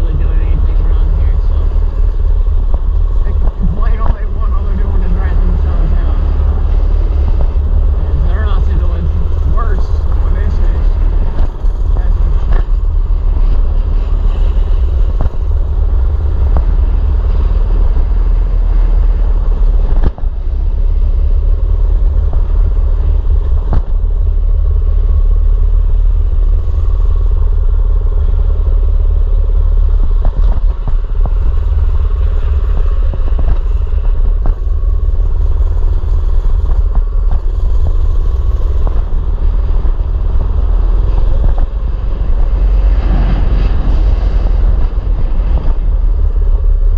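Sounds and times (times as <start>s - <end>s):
heavy low rumble: 0.0s - 46.9s.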